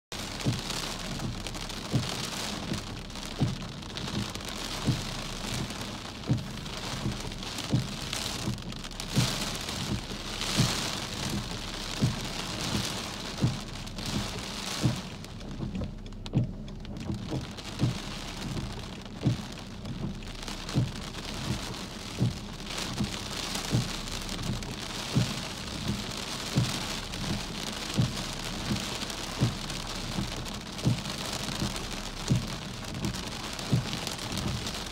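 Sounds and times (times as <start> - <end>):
heavy rain on car: 0.0 - 34.9
soft low thump: 0.2 - 34.9.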